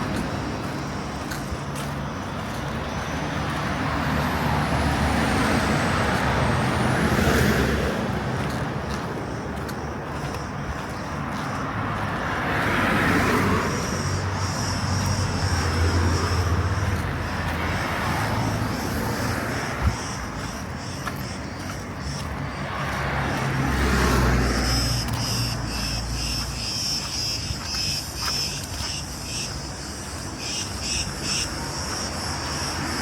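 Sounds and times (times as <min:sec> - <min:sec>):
vehicles passing: 0:00.0 - 0:33.0.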